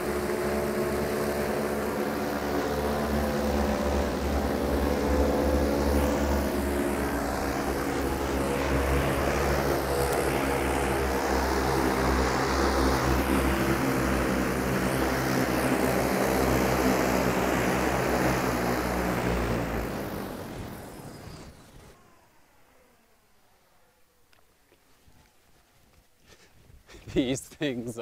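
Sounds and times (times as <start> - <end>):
drone rotors droning hum: 0.0 - 26.2.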